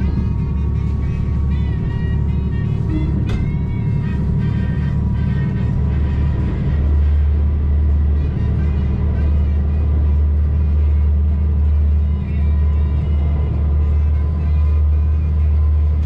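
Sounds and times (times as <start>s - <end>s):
diesel railcar rumble: 0.0s - 16.0s
music: 0.0s - 16.0s.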